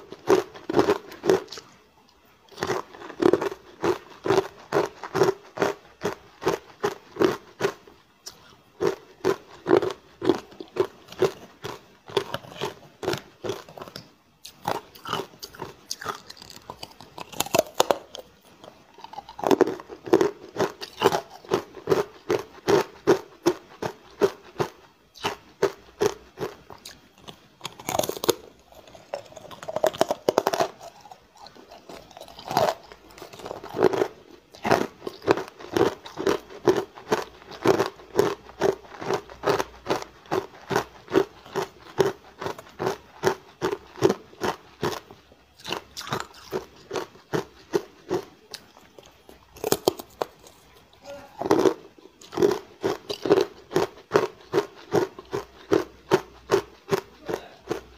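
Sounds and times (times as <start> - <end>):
ice being bitten and chewed: 0.0 - 57.9.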